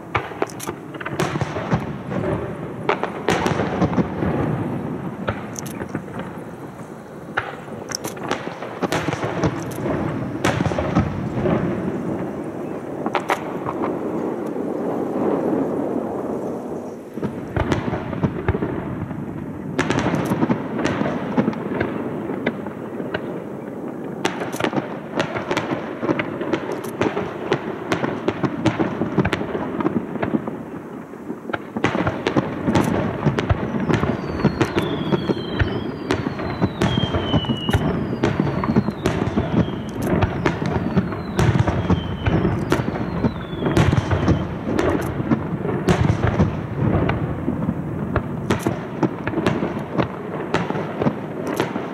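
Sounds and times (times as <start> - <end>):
fireworks cracks and bangs: 0.0 - 51.9
low rumble of fireworks bursts: 0.0 - 51.9
falling firework whistles: 2.9 - 27.2, 27.9 - 51.9.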